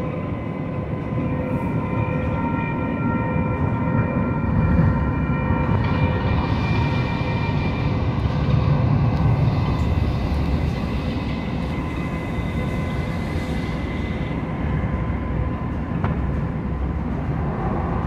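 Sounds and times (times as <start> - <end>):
thin steady whine: 0.0 - 18.0
train low rumble: 0.0 - 18.0.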